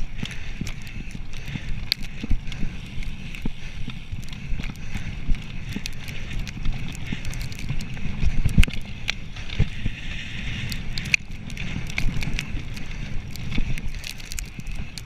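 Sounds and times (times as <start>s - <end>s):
bike rattling over ruts: 0.0s - 15.0s
bike tyres rumbling on dirt: 0.0s - 15.0s.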